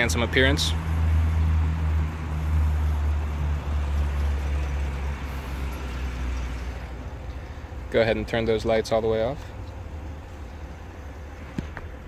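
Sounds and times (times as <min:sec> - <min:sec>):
truck engine idling rumble: 0:00.0 - 0:12.0.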